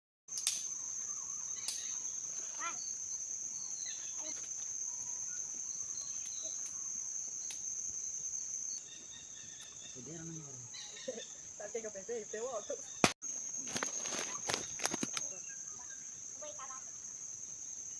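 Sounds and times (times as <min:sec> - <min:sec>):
insects trilling: 0:00.3 - 0:17.9.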